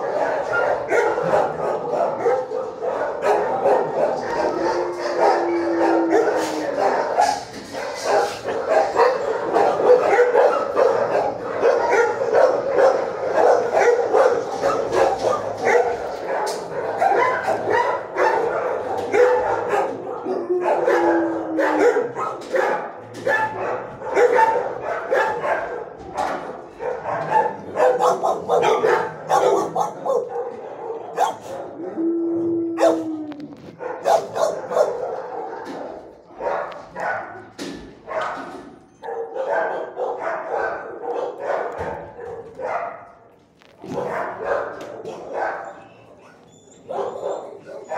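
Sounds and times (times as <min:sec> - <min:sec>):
many dogs barking: 0:00.0 - 0:47.9.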